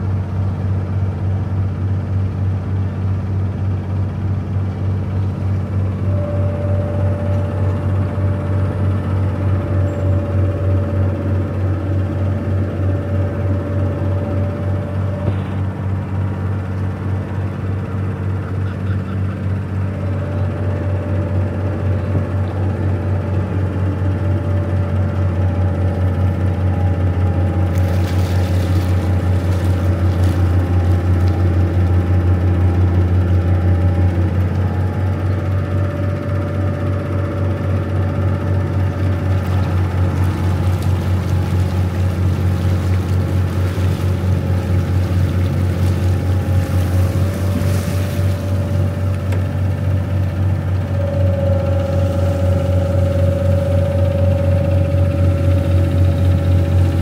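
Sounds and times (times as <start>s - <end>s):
boat engine humming: 0.0s - 57.0s
faint steady whine: 0.0s - 57.0s.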